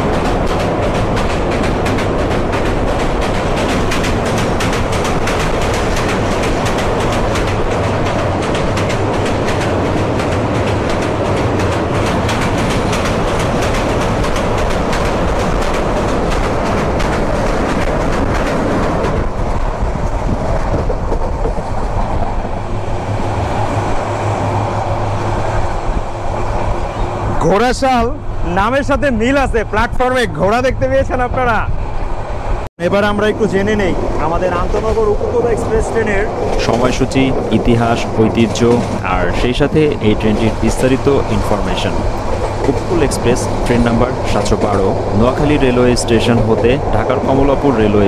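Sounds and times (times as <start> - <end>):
train clattering across bridge: 0.0 - 48.0.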